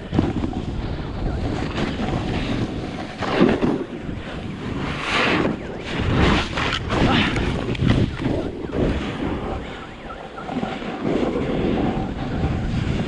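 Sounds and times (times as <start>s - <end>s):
snowboard carving through snow: 0.0s - 8.1s, 10.5s - 13.0s
wind buffeting microphone: 0.0s - 13.0s.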